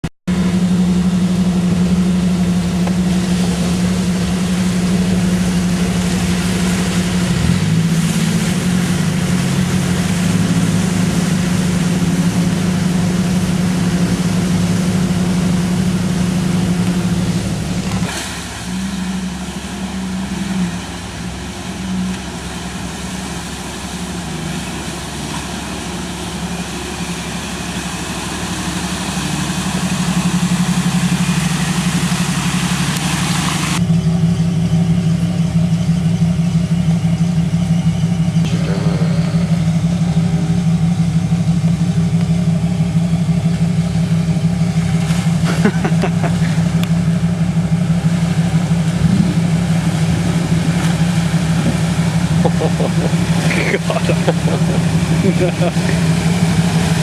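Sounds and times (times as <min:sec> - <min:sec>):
off-road engine running: 0:00.0 - 0:57.0.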